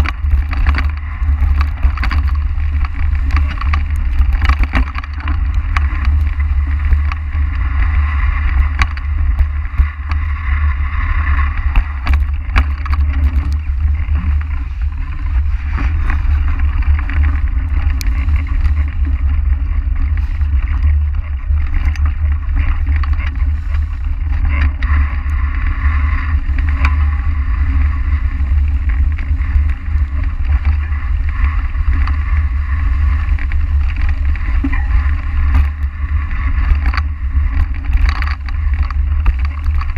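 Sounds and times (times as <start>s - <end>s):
bike rattling and clicking: 0.0s - 39.9s
bike tyres through dry leaves: 0.0s - 39.9s
wind rumble on microphone: 0.0s - 39.9s.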